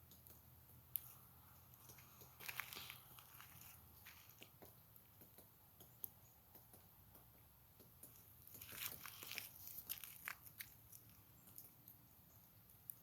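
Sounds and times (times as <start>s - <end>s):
woodpecker pecking on bark: 0.0s - 13.0s.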